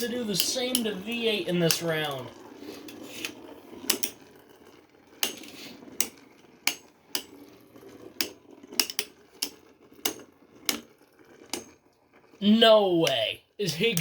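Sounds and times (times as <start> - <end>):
spinning tops scraping rattle: 0.0 - 14.0.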